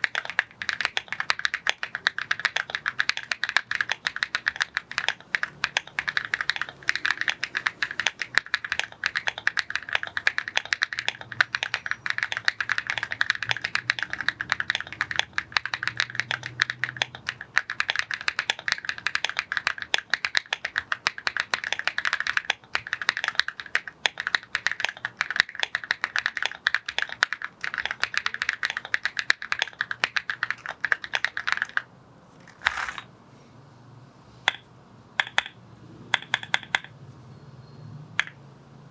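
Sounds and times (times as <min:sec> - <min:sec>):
fast keyboard typing: 0:00.0 - 0:33.1, 0:35.2 - 0:37.0.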